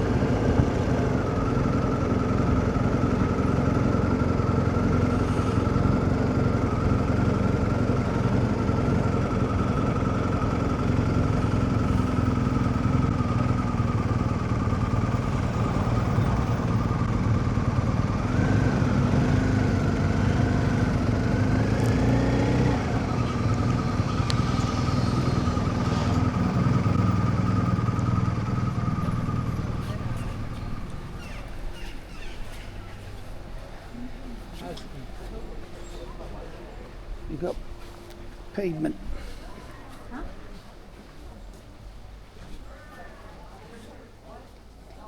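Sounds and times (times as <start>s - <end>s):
motorcycle engine accelerating: 0.0s - 37.1s.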